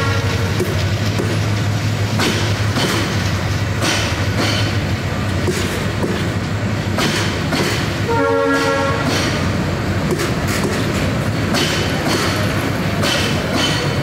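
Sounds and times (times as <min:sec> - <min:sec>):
train coaches rumbling past: 0:00.0 - 0:14.0
wheels clacking over rail joints: 0:00.0 - 0:14.0.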